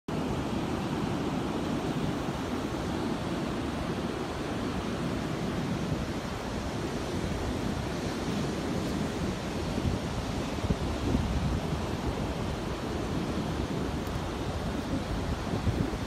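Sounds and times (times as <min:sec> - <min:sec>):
surf breaking on a beach: 0:00.1 - 0:16.0
wind on microphone: 0:00.2 - 0:16.0.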